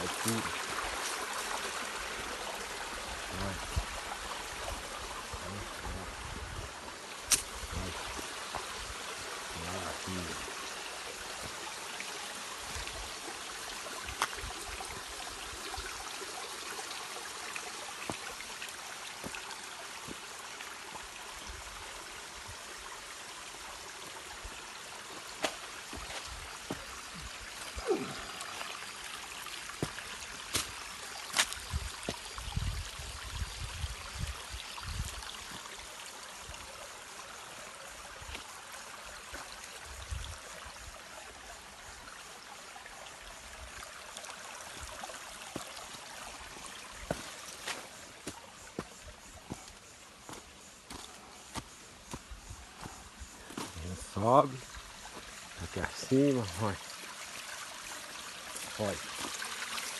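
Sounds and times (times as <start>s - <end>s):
rushing water of waterfall: 0.0s - 59.9s.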